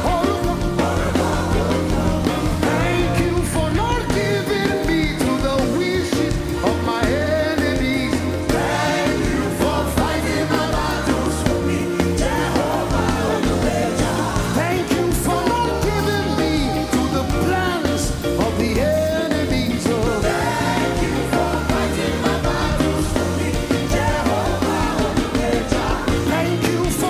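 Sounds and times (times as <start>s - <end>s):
band with steady bass line: 0.0s - 27.0s
person singing: 0.0s - 27.0s.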